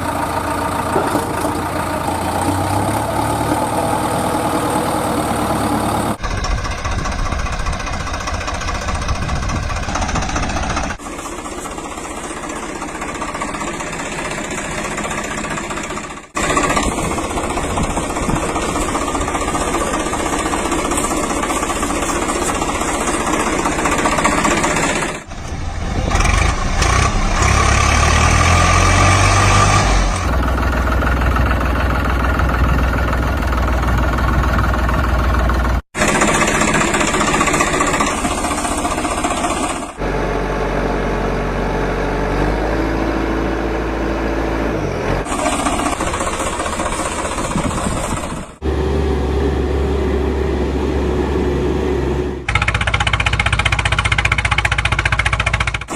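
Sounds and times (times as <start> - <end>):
tractor-like engine running: 0.0 - 55.9.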